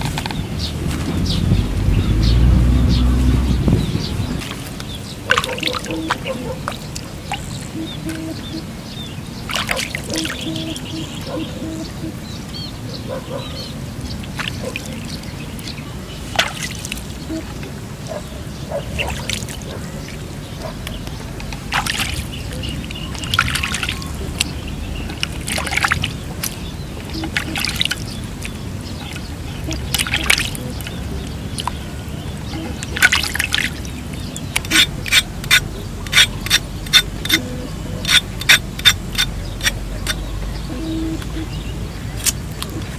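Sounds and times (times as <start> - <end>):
water trickling and splashing: 0.0 - 42.9.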